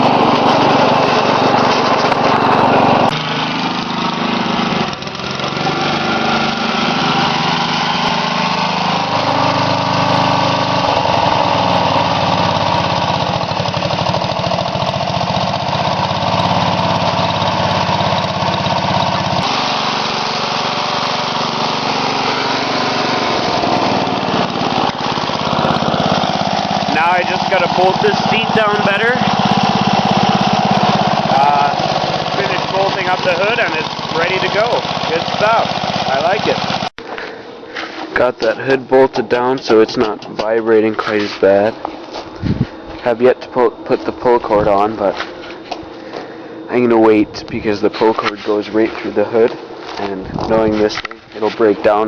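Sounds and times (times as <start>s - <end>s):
lawn tractor engine running: 0.0s - 52.0s.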